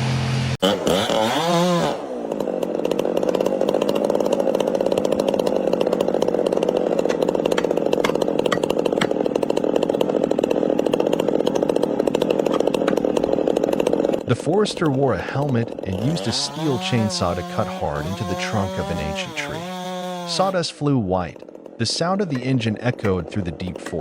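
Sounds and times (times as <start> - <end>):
chainsaw cutting tree trunk: 0.6 - 24.0.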